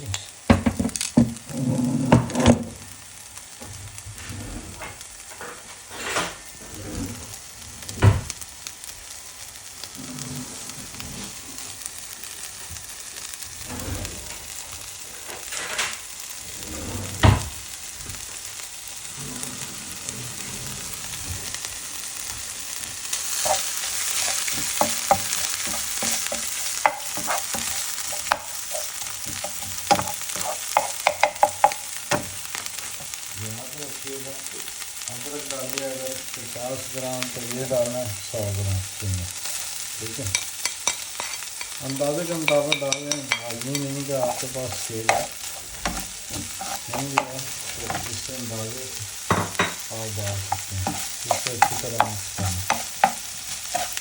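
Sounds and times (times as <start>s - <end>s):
ginger sizzling in oil: 0.0s - 54.0s.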